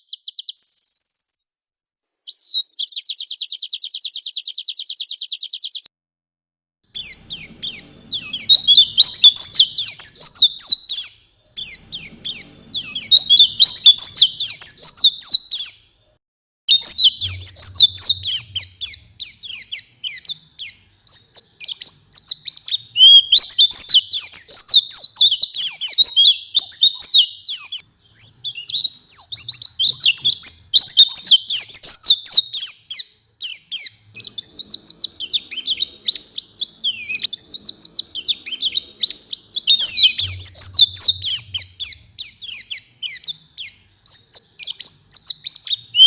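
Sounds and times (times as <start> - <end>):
bird twittering song: 0.0 - 1.4, 2.3 - 5.9, 6.9 - 16.1, 16.7 - 46.0.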